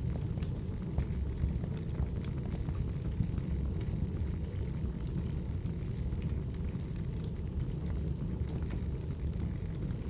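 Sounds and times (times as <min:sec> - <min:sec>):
fire crackles and pops: 0:00.0 - 0:10.0
firewood burning: 0:00.0 - 0:10.0.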